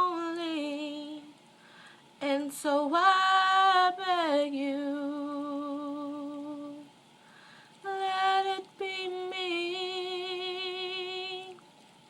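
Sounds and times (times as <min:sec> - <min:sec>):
woman singing unaccompanied: 0:00.0 - 0:01.4, 0:02.2 - 0:07.0, 0:07.8 - 0:11.6.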